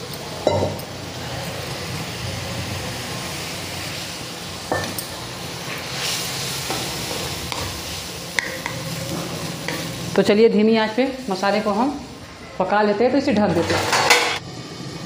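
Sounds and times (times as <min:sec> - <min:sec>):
spice paste sizzling: 0:00.0 - 0:13.3.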